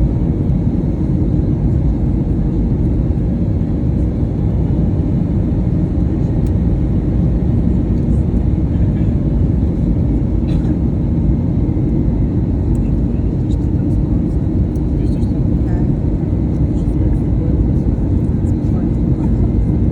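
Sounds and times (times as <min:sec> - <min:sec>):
airliner cabin engine rumble: 0:00.0 - 0:19.9.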